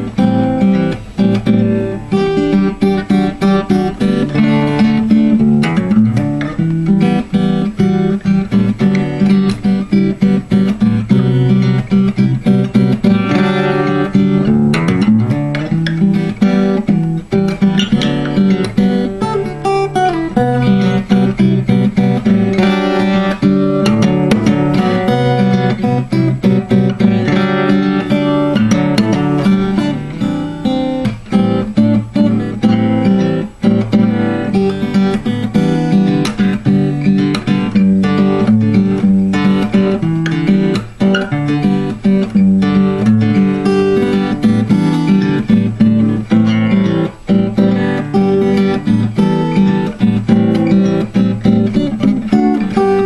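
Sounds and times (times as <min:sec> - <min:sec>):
fingerpicked acoustic guitar: 0:00.0 - 0:53.0.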